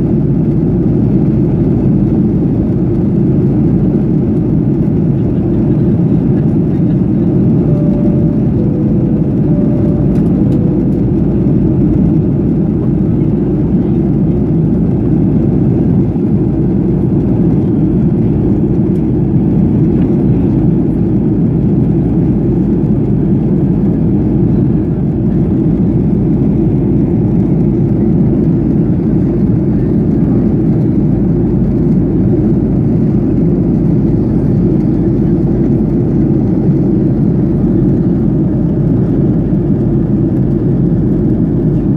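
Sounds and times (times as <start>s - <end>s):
airplane cabin drone: 0.0s - 41.9s.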